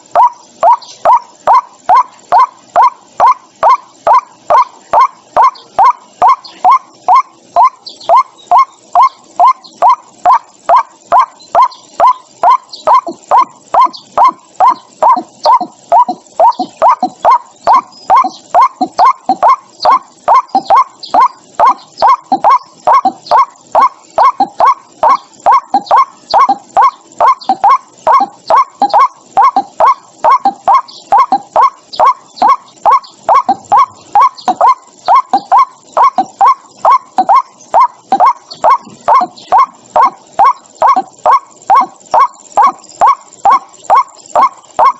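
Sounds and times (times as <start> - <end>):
waterhen calling: 0.0 - 44.9.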